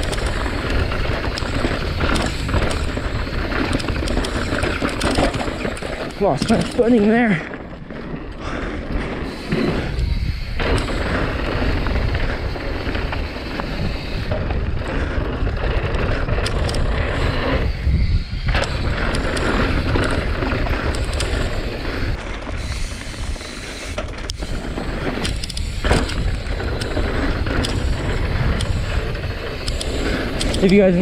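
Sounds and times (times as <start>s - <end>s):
bike clicks and rattles: 0.0s - 31.0s
tyres rumbling on dirt: 0.0s - 31.0s
wind buffeting microphone: 0.0s - 31.0s.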